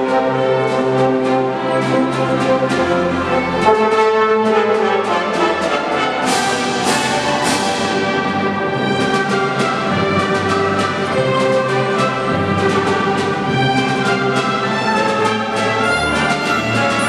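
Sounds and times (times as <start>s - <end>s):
orchestra playing a march: 0.0s - 17.0s
percussion strokes: 0.0s - 17.0s.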